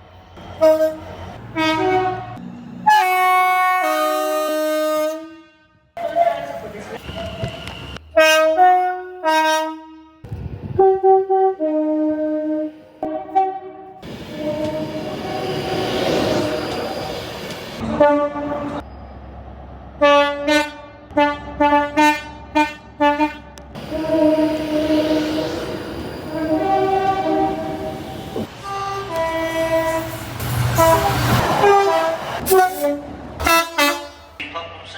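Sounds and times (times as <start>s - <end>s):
passing train rumble: 0.0s - 34.9s
train horn blasts: 0.5s - 6.0s, 7.1s - 15.5s, 17.8s - 18.8s, 20.0s - 25.6s, 26.3s - 34.4s.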